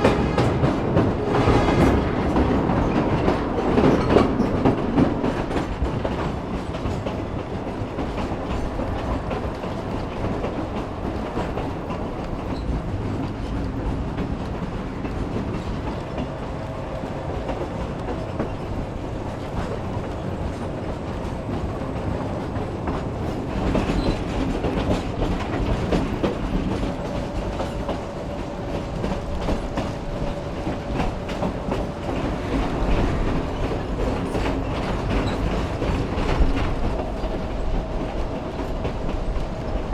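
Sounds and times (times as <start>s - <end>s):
train rumbling on track: 0.0s - 39.9s
wheels clicking over rail joints: 0.0s - 39.9s.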